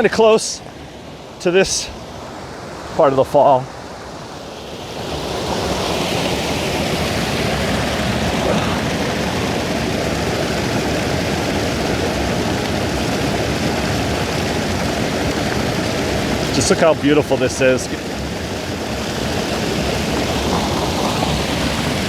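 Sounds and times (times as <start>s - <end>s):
waterfall roaring: 2.6s - 22.0s.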